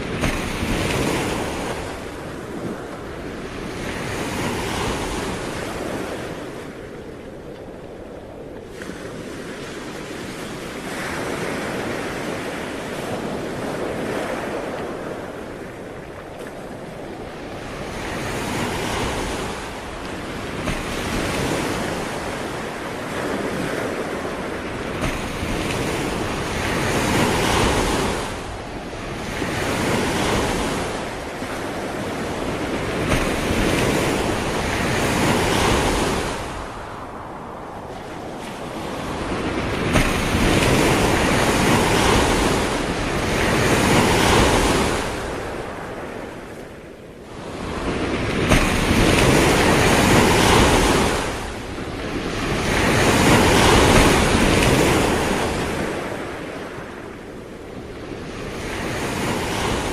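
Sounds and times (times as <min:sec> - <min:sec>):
ocean waves breaking on shore: 0:00.0 - 0:59.9
wind noise on microphone: 0:00.0 - 0:59.9.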